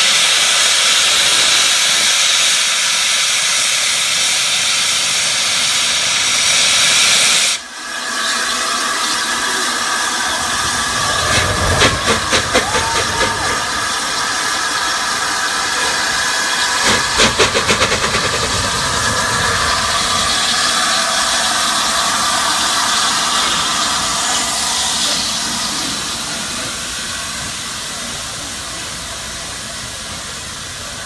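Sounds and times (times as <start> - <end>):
rapid locomotive exhaust beats: 0.0 - 31.0
steam locomotive hissing: 0.0 - 31.0.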